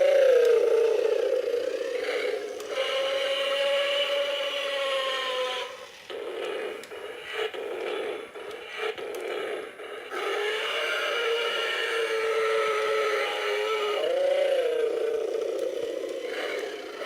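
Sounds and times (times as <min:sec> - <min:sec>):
rattling mechanical whir: 0:00.0 - 0:17.0
toy electronic roar: 0:00.0 - 0:17.0.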